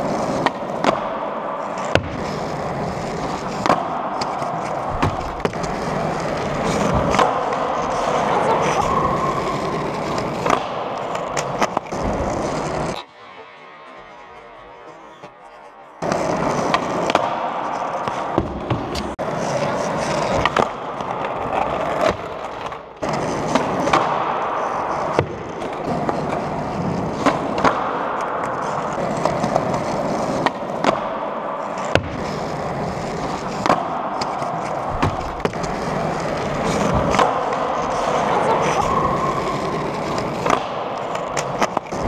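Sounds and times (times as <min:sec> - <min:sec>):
skateboard wheels rolling on concrete: 0:00.0 - 0:15.4, 0:16.0 - 0:42.0
skateboard clacking on landings: 0:00.2 - 0:13.0, 0:16.0 - 0:42.0.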